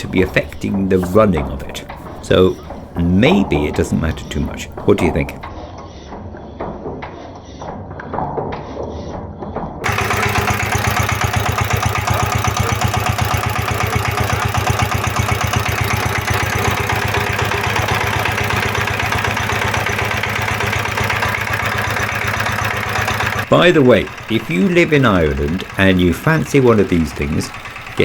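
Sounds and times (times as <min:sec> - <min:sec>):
diesel engine running: 0:00.0 - 0:05.5, 0:09.8 - 0:28.0.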